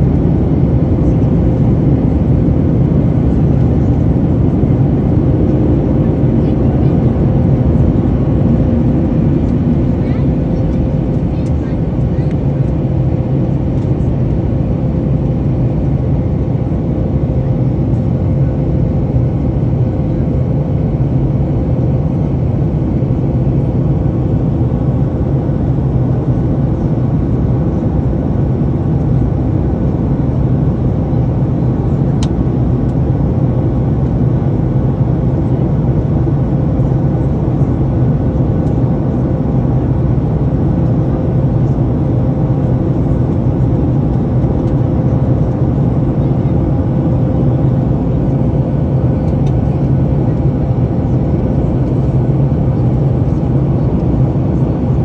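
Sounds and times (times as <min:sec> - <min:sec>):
jet engine and airflow drone: 0:00.0 - 0:55.0
steady hum: 0:00.0 - 0:55.0.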